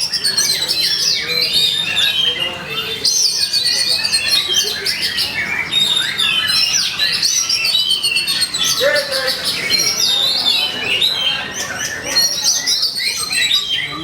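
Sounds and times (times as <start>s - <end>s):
magpie-robin singing: 0.0s - 14.0s.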